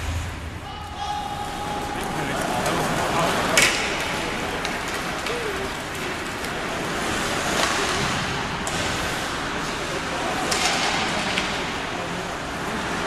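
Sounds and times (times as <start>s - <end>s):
hockey sticks and puck clacking: 0.9s - 13.0s
skate blades scraping ice: 1.8s - 13.0s.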